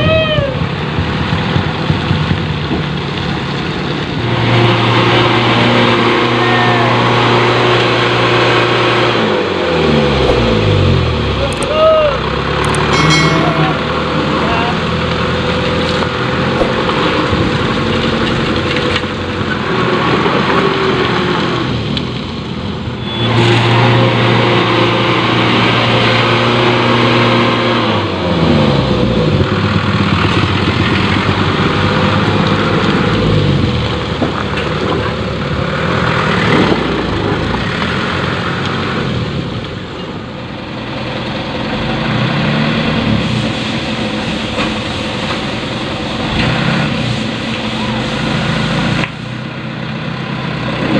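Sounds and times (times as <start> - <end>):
truck engine revving: 0.5 - 50.9.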